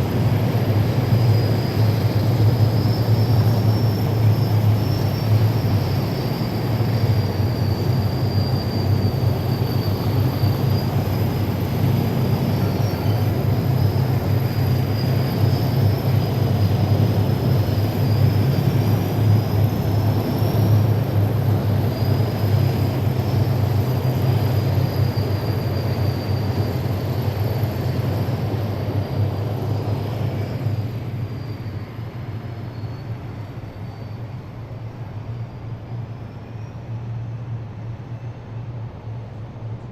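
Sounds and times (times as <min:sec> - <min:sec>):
heavy vehicle engines droning: 0:00.0 - 0:39.9.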